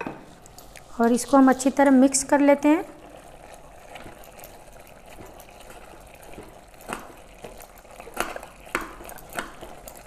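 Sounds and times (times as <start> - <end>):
wet mixing of meat: 0.8 - 10.0.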